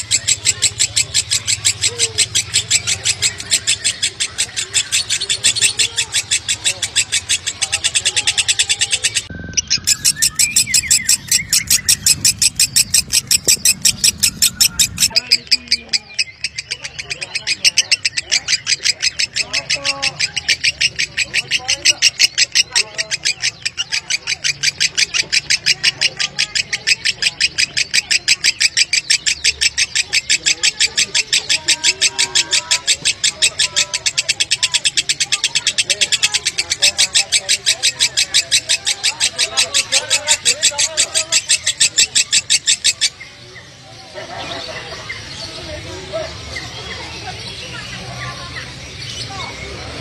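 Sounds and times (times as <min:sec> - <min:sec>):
lovebird chattering song: 0:00.0 - 0:50.0.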